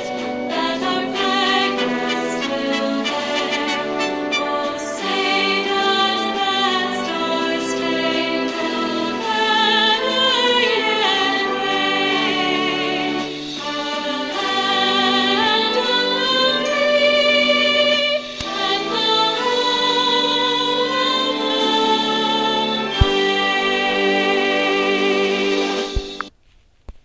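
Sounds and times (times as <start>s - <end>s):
choir singing held notes: 0.0s - 26.3s.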